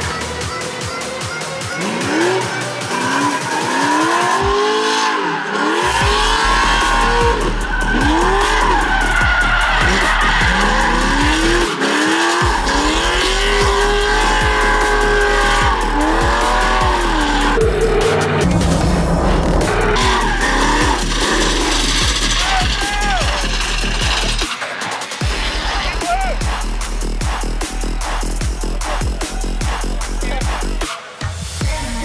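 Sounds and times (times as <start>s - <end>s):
electronic music with steady beat: 0.0s - 32.0s
car engine revving: 1.5s - 30.9s
tires squealing: 1.8s - 30.8s.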